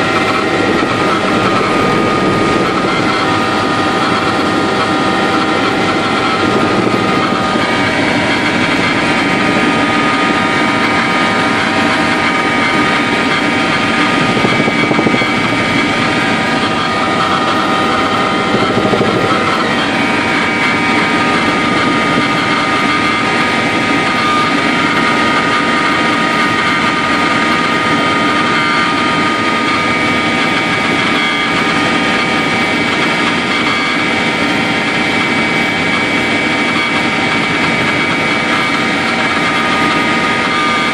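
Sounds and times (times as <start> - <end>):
helicopter drone from cabin: 0.0 - 40.9
whining tones: 0.0 - 40.9.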